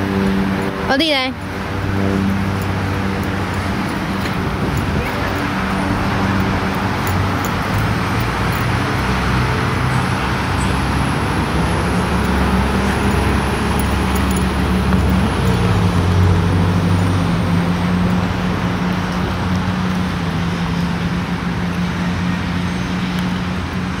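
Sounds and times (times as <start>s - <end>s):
low engine hum: 0.0s - 24.0s
road traffic noise: 0.0s - 24.0s.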